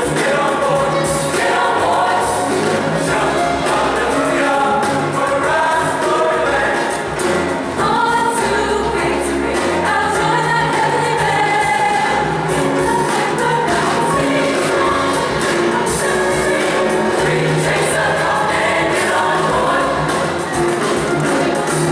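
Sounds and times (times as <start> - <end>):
youth choir singing in harmony: 0.0 - 21.9.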